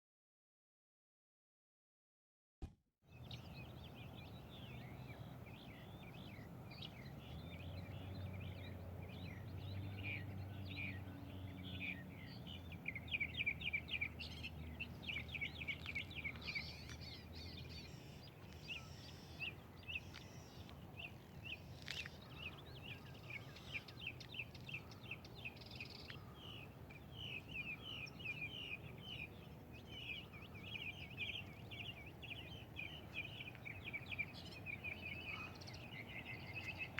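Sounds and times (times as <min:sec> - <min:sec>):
birds chirping: 0:03.1 - 0:36.9.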